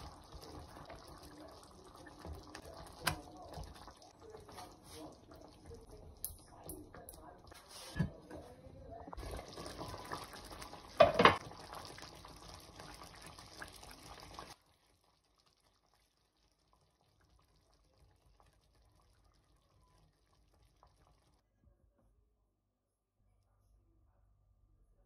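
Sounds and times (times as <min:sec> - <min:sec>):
sauce simmering in frying pan: 0:00.0 - 0:07.9, 0:09.2 - 0:21.4.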